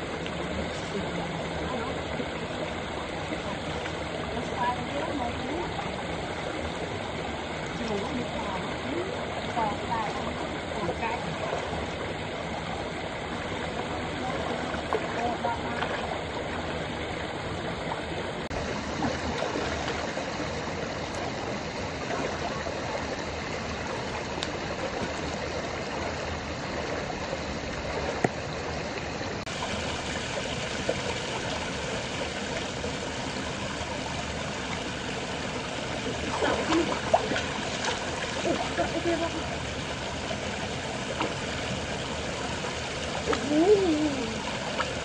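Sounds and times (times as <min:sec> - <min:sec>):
flowing water rushing: 0:00.0 - 0:45.0
people wading in water: 0:00.0 - 0:45.0.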